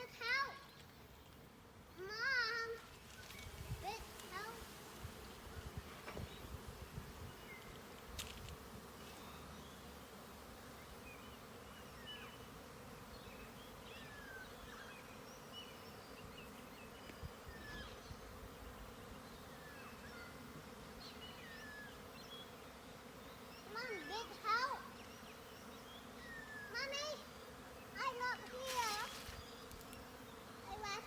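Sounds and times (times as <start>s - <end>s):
bee swarm buzzing: 1.4s - 31.0s.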